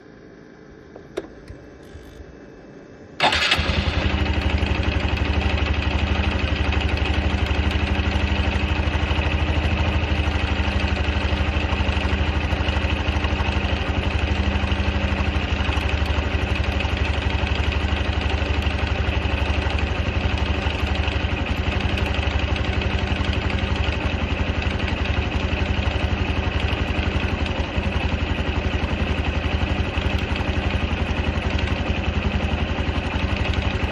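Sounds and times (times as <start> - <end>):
motorcycle engine idling with rattle: 0.9 - 2.4, 3.2 - 33.9.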